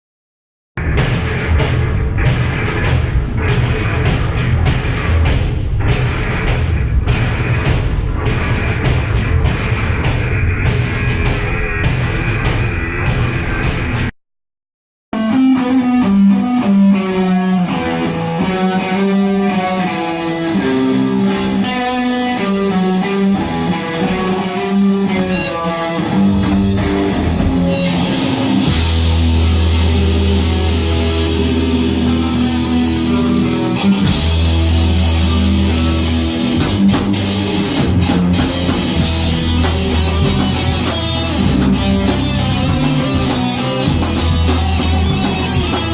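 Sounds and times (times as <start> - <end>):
drums and cymbals: 0.8 - 14.1, 17.6 - 45.9
electric guitar riff: 0.8 - 14.1, 15.2 - 45.9
metal band playing live: 0.8 - 14.1, 15.2 - 45.9.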